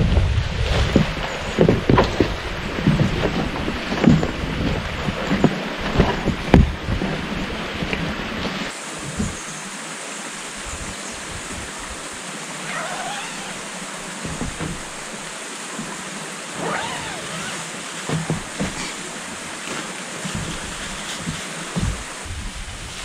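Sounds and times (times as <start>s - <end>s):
stream rushing: 0.0s - 23.0s.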